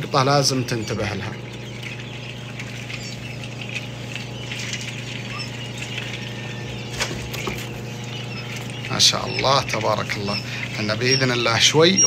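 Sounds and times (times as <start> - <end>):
chicks peeping: 0.0 - 12.0
chicks scrabbling in tray: 0.0 - 12.0
low machine hum: 0.0 - 12.0.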